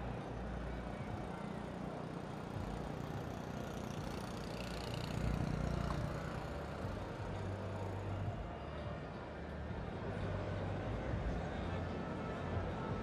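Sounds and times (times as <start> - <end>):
distant crowd rumble: 0.0 - 13.0.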